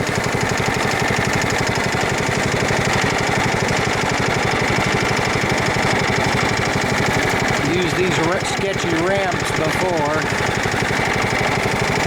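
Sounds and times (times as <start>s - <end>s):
riding mower engine running: 0.0s - 12.0s.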